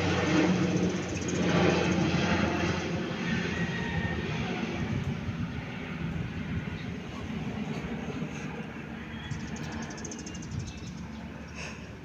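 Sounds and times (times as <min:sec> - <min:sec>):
turboprop engines rumbling: 0:00.0 - 0:12.0.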